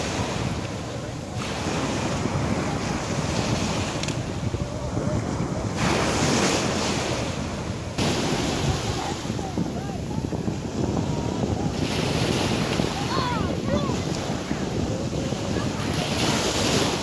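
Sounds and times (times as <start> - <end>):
small waves washing on shore: 0.0 - 17.0
wind rumbling on microphone: 0.0 - 17.0.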